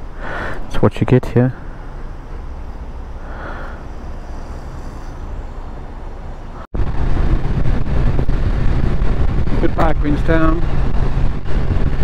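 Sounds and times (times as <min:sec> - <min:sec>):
wind noise: 0:00.0 - 0:12.0.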